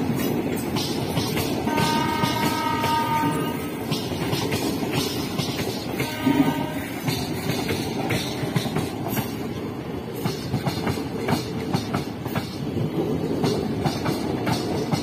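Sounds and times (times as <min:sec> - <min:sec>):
train coaches rumbling past: 0:00.0 - 0:15.0
wheels clicking over rail joints: 0:00.0 - 0:15.0.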